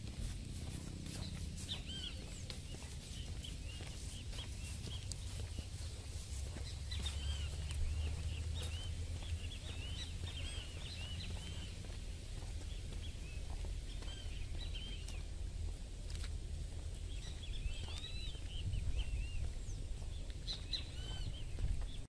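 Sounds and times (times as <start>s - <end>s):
birds chirping: 0.0s - 22.0s
horse walking through dry grass: 0.0s - 22.0s
low rumble: 0.0s - 22.0s.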